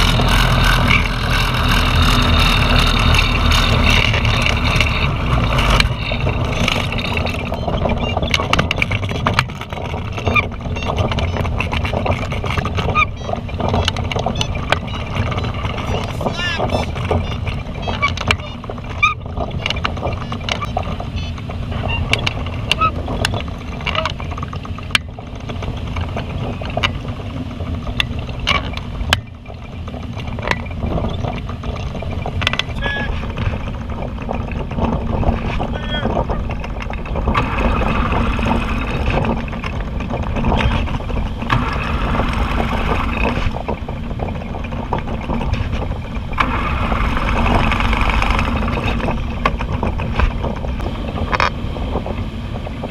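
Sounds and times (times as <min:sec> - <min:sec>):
light ticks and rattles: 0:00.0 - 0:52.9
wind rushing past cockpit: 0:00.0 - 0:52.9.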